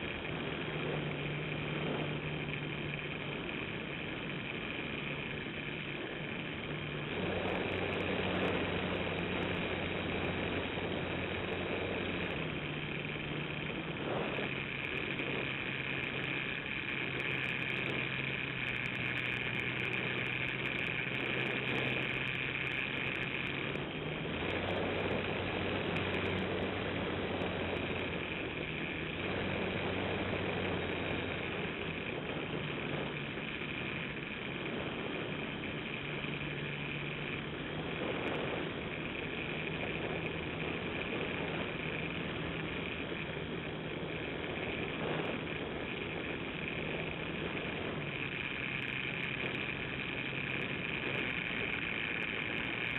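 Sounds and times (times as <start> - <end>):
model airplane motor and propeller: 0.0 - 52.9.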